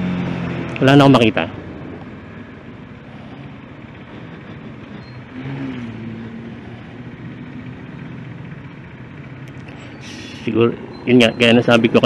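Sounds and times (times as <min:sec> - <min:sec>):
motorcycle engine: 0:00.0 - 0:12.0
road noise: 0:00.0 - 0:12.0.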